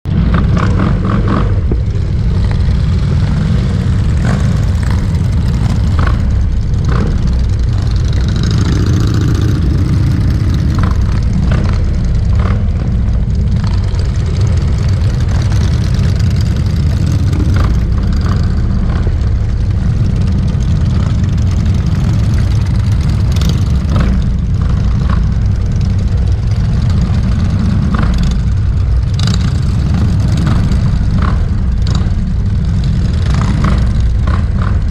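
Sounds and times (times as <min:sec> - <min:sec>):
motorcycle engines rumbling: 0:00.0 - 0:34.9.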